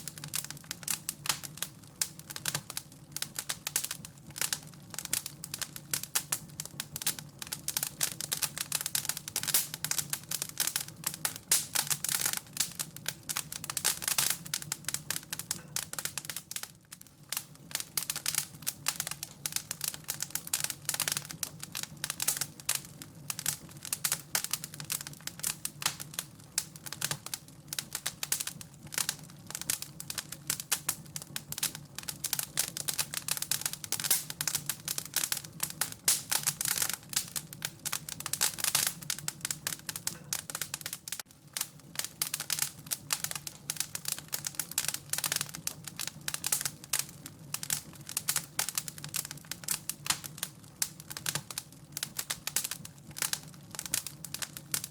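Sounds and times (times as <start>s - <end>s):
wood fire crackling and popping: 0.0s - 54.9s.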